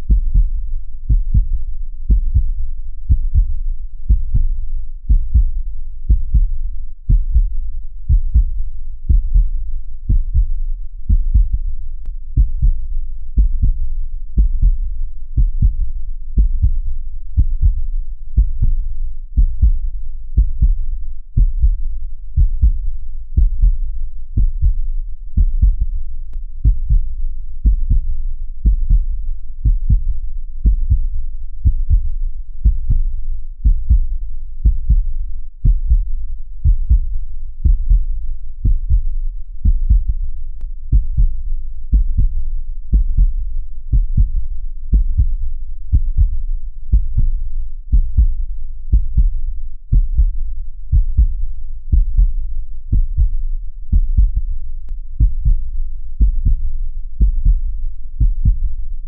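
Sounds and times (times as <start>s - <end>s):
heartbeat thumps: 0.0s - 59.0s.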